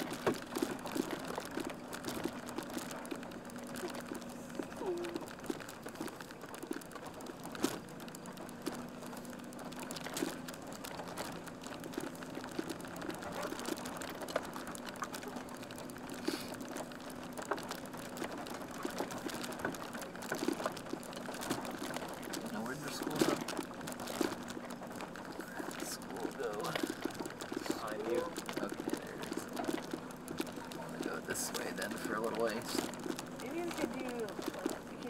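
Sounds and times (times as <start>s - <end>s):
van body rattling and clicking: 0.0s - 35.0s
van engine humming: 0.0s - 35.0s.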